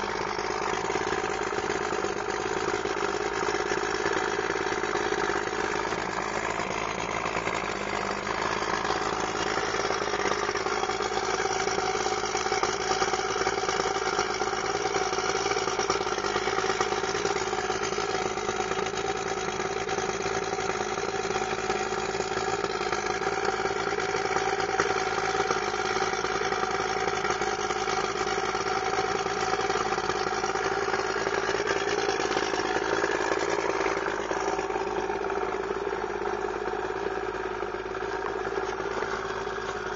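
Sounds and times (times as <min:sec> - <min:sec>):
outboard motor idling: 0:00.0 - 0:39.9.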